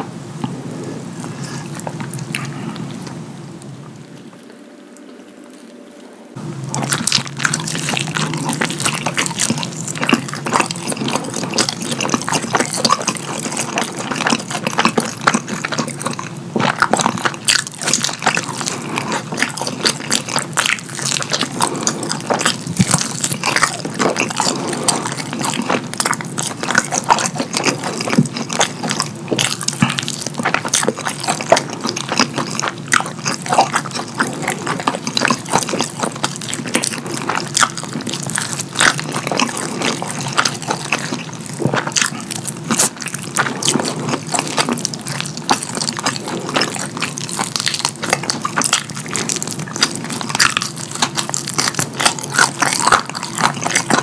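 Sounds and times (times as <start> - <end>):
wet chewing and lip-smacking: 0.4 - 3.3, 3.9 - 54.0.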